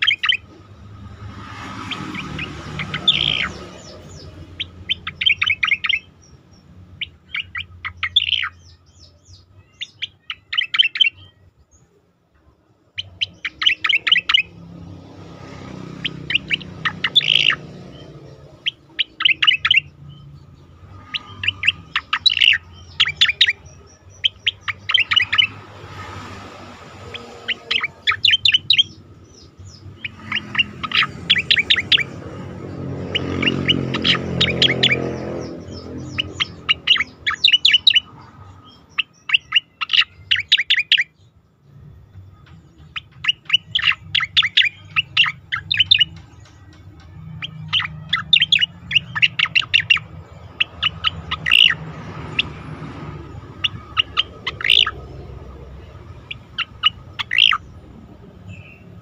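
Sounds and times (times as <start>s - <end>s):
bird chirping song: 0.0s - 59.0s.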